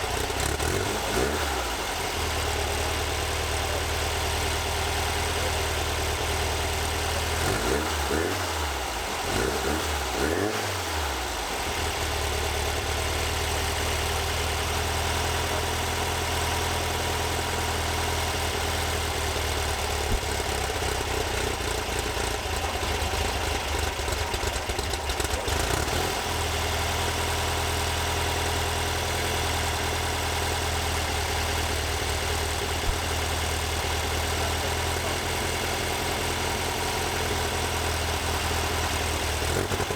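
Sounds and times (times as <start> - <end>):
air-cooled engine running: 0.0 - 39.9.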